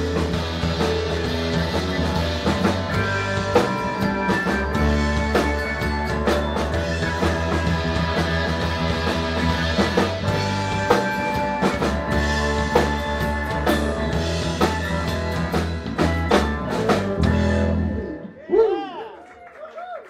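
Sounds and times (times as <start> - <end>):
drum kit with cymbals: 0.0 - 18.0
keyboard: 0.0 - 18.4
bass guitar: 0.0 - 18.6
electric guitar: 0.0 - 18.8.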